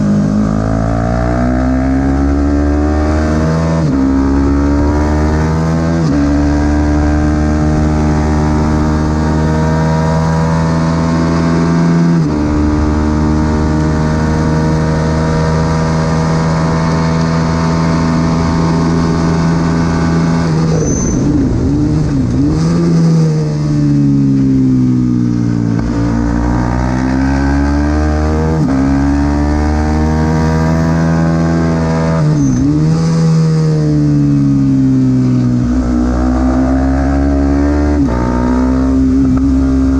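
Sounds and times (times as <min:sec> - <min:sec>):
motorcycle engine revving high: 0:00.0 - 0:39.9.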